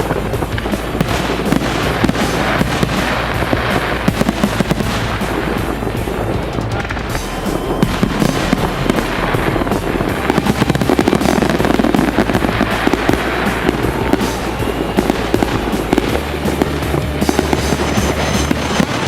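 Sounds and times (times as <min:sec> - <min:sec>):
fireworks crackling and popping: 0:00.0 - 0:19.0
rock music: 0:00.0 - 0:19.0.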